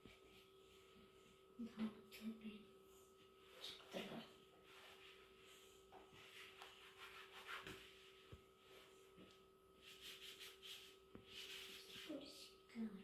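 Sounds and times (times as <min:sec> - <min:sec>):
faint scratching and rubbing: 0:00.0 - 0:12.6
faint electrical hum: 0:00.0 - 0:13.0.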